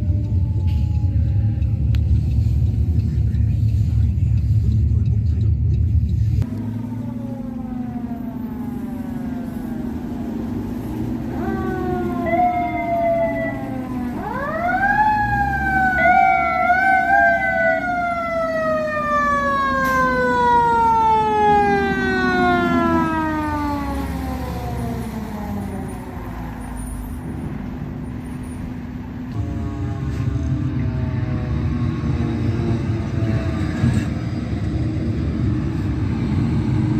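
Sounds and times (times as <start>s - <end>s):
fire truck siren wailing: 0.0s - 2.4s, 6.4s - 36.9s
low engine drone: 0.0s - 36.9s.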